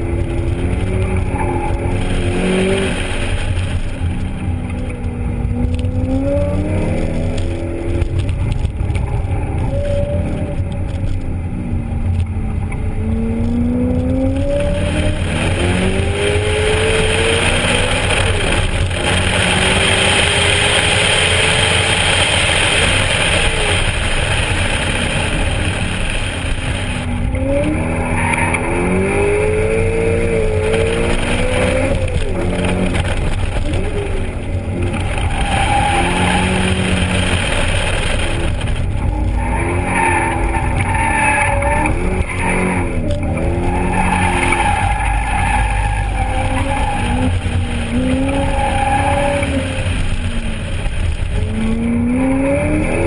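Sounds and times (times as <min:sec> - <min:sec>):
broad rushing noise: 0:00.0 - 0:09.6, 0:13.2 - 0:53.0
car engine revving: 0:00.0 - 0:53.0.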